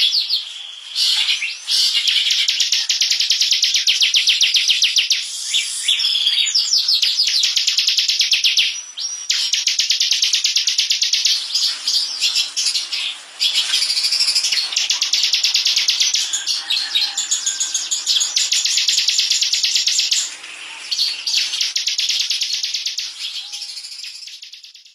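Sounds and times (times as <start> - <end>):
bird singing fast trill: 0.0 - 24.9.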